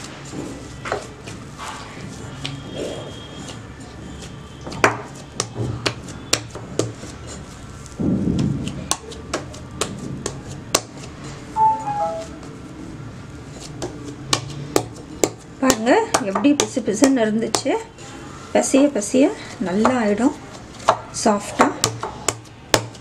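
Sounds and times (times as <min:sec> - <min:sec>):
hands kneading dough: 0:00.0 - 0:11.6, 0:12.4 - 0:23.0.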